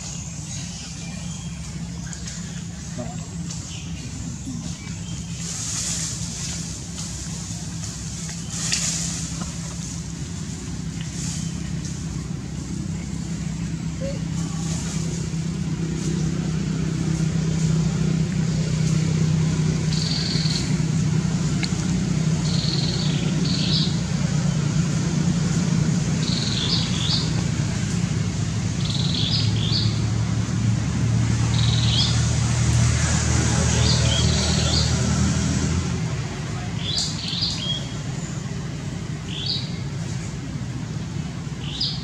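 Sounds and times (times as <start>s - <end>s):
low motor hum: 0.0s - 42.0s.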